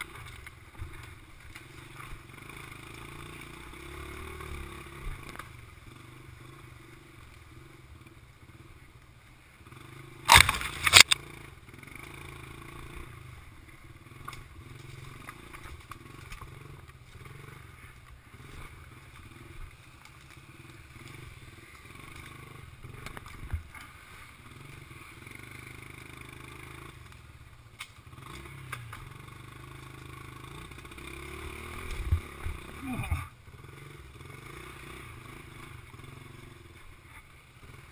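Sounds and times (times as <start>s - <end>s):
mini bike engine running: 0.0s - 8.8s, 9.4s - 37.9s.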